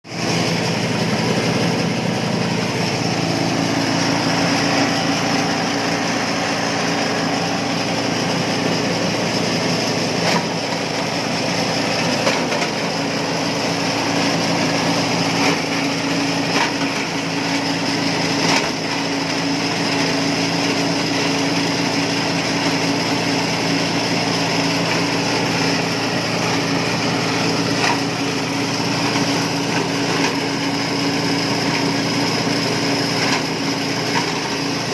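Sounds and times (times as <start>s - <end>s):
shredder motor droning: 0.1s - 34.9s.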